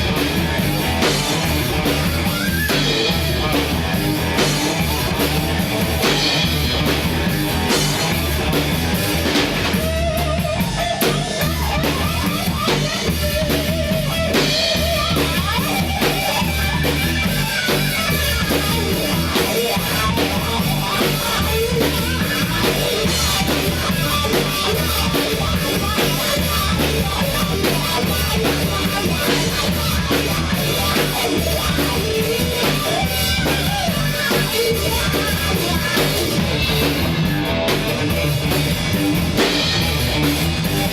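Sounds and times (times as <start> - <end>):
bass guitar: 0.0 - 40.9
drum kit beat: 0.0 - 40.9
electric guitars: 0.0 - 40.9.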